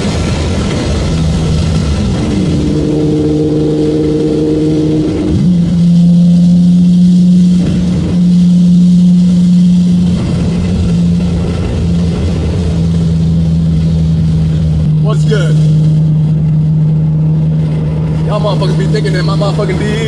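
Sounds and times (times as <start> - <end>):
car engine droning at high revs: 0.0 - 20.0.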